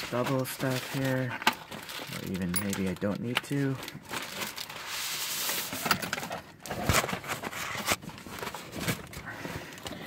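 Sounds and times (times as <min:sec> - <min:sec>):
bubble wrap rustling and crinkling: 0:00.0 - 0:09.9.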